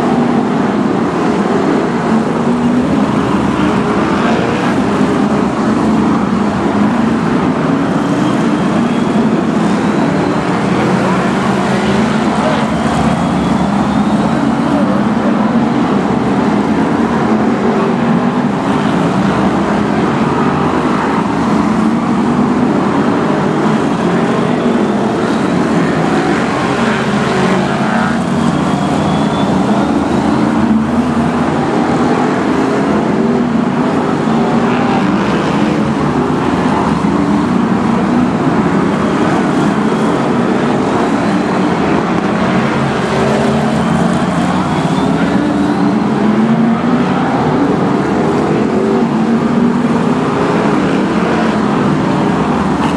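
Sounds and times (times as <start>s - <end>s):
race car engines roaring: 0.0s - 52.9s.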